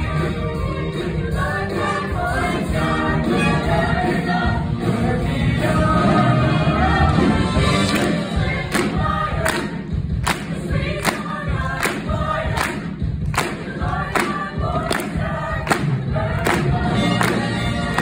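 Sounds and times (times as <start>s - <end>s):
musical accompaniment: 0.0s - 18.0s.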